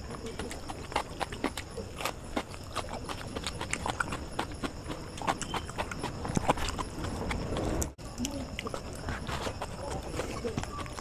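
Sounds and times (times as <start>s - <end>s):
chewing and lip smacking: 0.0s - 11.0s.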